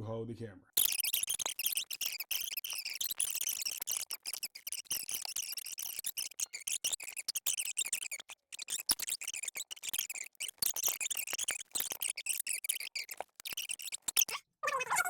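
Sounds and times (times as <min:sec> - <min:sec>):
small squeaks: 0:00.8 - 0:15.0.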